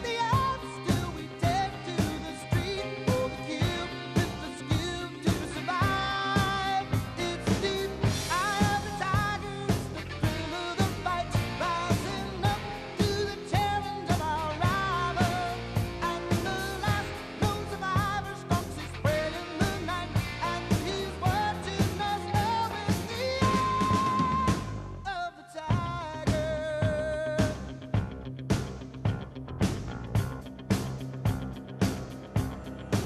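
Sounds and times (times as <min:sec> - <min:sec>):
pop-rock song with vocals: 0:00.0 - 0:33.0.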